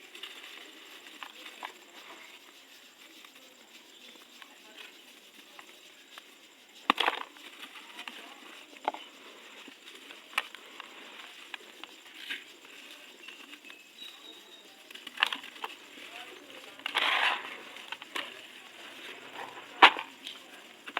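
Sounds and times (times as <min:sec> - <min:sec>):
faint continuous crackle: 0:00.0 - 0:20.9.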